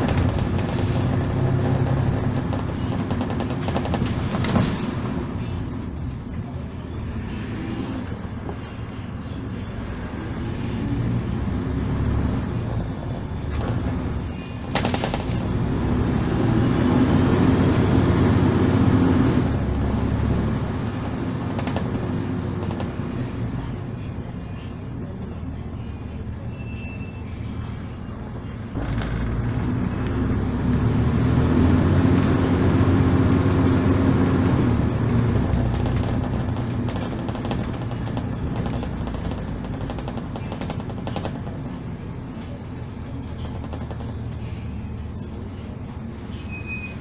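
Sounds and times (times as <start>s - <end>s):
bus diesel engine under load: 0.0s - 47.0s.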